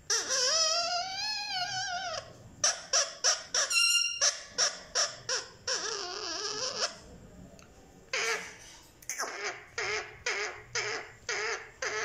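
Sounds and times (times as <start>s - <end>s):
parakeet calling and squawking: 0.0s - 7.1s, 8.1s - 12.0s.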